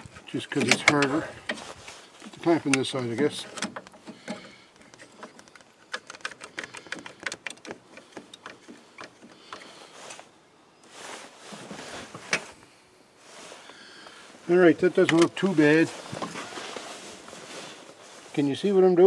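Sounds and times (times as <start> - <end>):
handling sounds: 0.0 - 12.6, 13.2 - 19.0.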